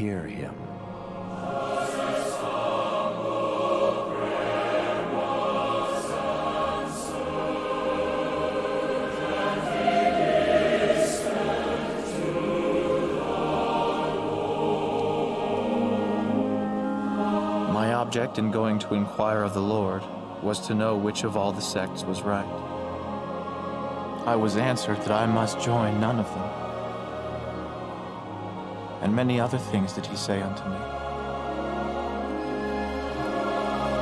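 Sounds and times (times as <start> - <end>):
choir holding sustained chords: 0.0 - 34.0.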